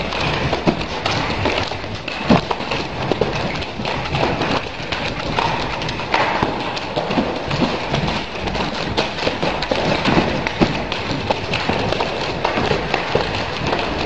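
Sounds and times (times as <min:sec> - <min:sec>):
nunchaku taps and thuds: 0:00.0 - 0:14.0.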